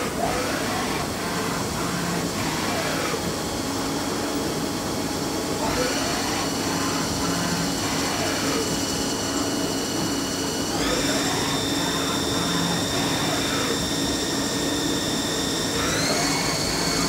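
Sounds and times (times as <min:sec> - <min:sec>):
servo motors whining: 0:00.0 - 0:03.4, 0:05.5 - 0:17.0
steady machine hum: 0:00.0 - 0:17.0.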